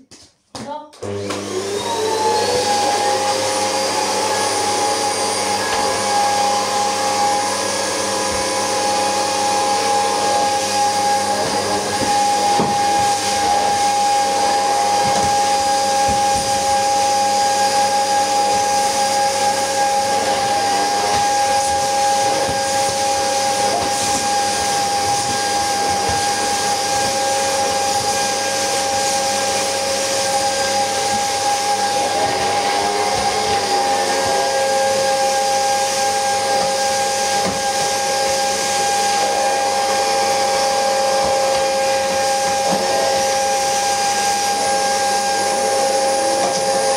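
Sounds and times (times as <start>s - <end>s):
vacuum cleaner running: 1.0s - 46.9s.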